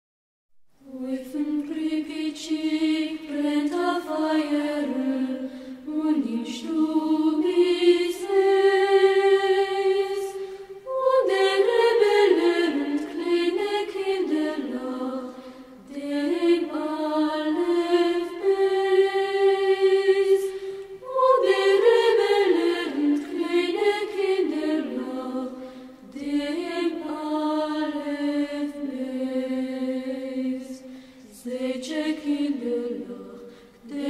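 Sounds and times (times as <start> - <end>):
children's choir singing folk song: 0.8 - 34.0.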